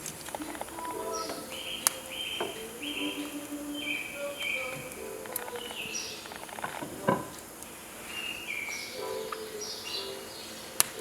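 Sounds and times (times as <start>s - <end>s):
firewood crackling in stove: 0.0s - 11.0s
soft background music: 0.0s - 11.0s.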